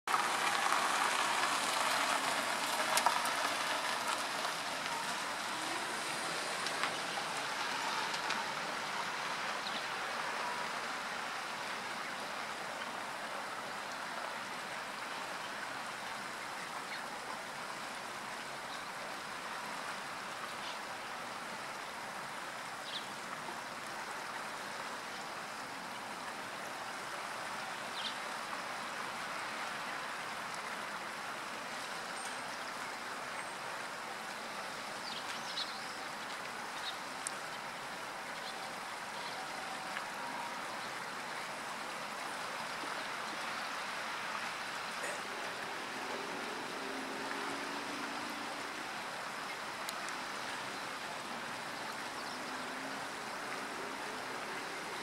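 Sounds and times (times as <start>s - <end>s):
flowing water rushing: 0.1s - 55.0s.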